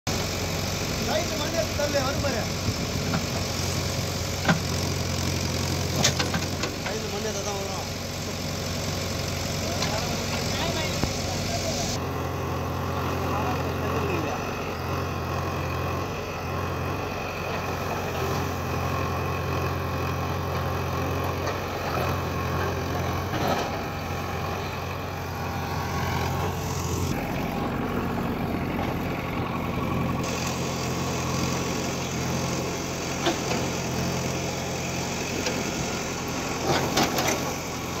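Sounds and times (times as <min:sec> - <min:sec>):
diesel engine running: 0:00.1 - 0:38.0.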